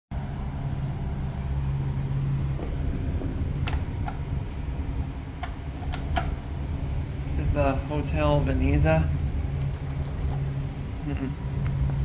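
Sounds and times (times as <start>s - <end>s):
low mechanical hum: 0.1s - 12.0s
low rumble: 0.1s - 12.0s.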